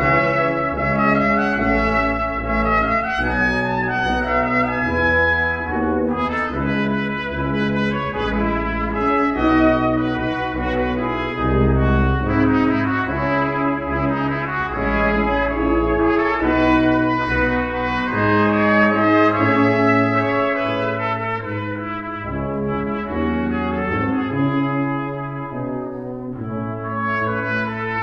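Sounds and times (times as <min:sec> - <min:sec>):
brass ensemble playing chords: 0:00.0 - 0:28.0.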